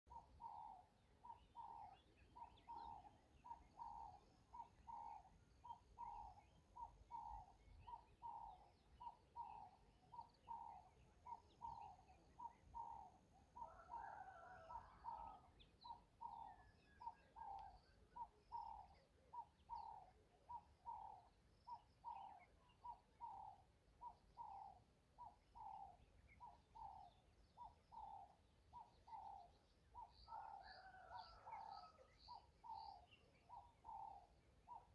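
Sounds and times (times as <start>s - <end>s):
bird calling: 0.1s - 34.9s.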